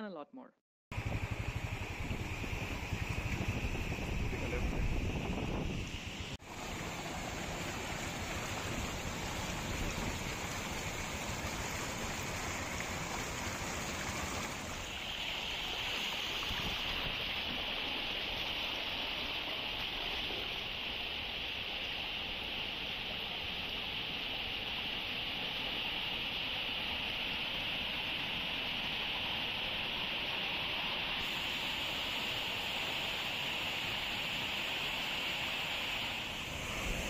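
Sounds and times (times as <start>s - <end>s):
rushing floodwater: 1.0s - 37.0s.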